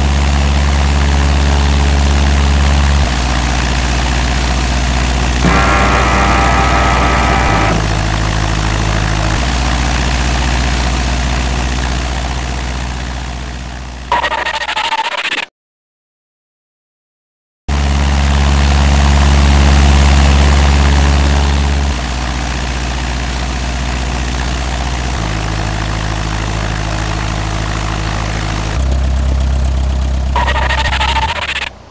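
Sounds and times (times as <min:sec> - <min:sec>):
deep engine-like droning hum: 0:00.0 - 0:14.1, 0:17.7 - 0:31.8.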